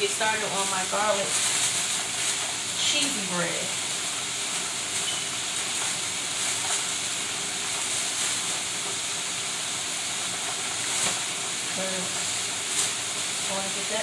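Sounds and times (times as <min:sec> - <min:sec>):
plastic bag crinkling: 0:00.0 - 0:09.0, 0:10.4 - 0:14.0
meat sizzling in oil: 0:00.0 - 0:14.0.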